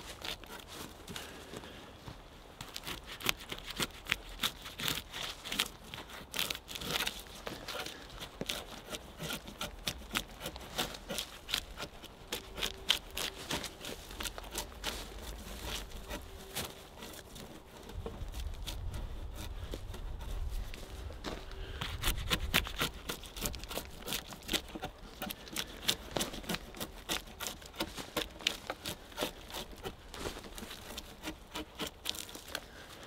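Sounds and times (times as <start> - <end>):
blade scraping wood: 0.0 - 1.8, 2.6 - 33.0.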